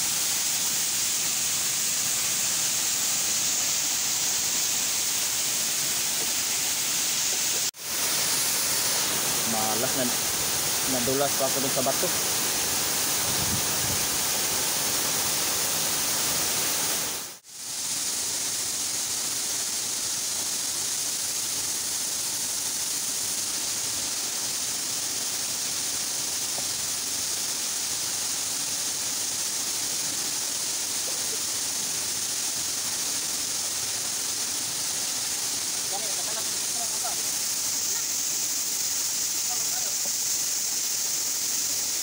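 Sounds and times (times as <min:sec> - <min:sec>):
waterfall rushing: 0:00.0 - 0:17.4, 0:23.2 - 0:42.0.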